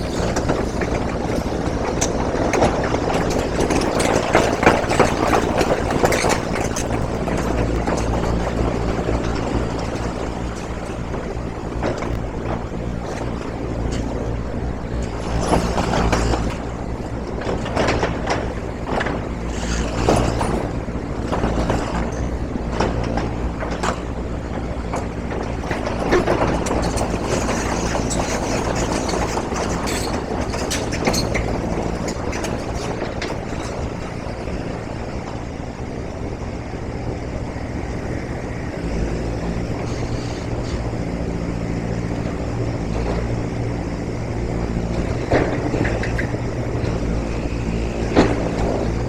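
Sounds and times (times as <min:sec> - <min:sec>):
low mechanical drone: 0:00.0 - 0:49.0.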